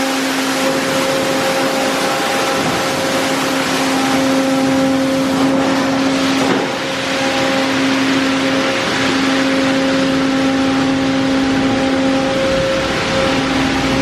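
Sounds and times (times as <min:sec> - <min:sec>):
car wash water rushing: 0:00.0 - 0:14.0
motor hum: 0:00.0 - 0:14.0.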